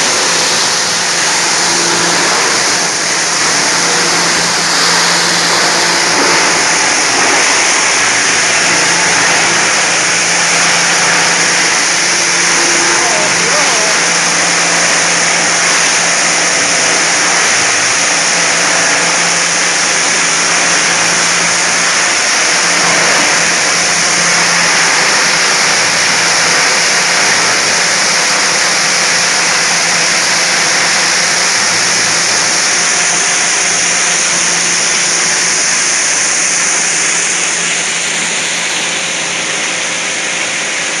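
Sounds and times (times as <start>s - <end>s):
plastic shredder running: 0.0s - 41.0s.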